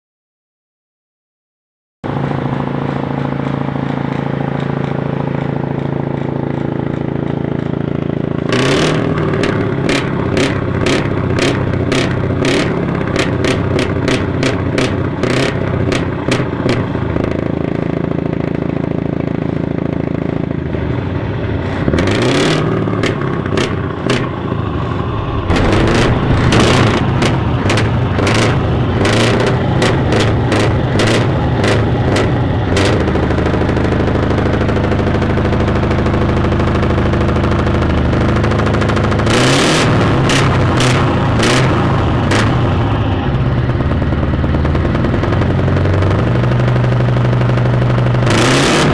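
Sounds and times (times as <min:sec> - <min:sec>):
diesel engine revving: 0:02.0 - 0:48.9
exhaust cracks: 0:02.0 - 0:48.9.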